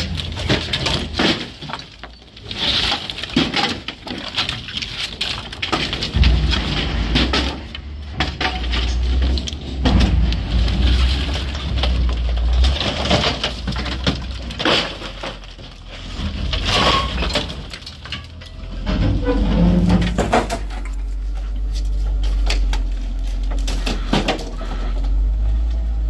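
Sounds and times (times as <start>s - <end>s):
debris clattering and breaking: 0.0s - 26.0s
low engine rumble: 4.8s - 26.0s.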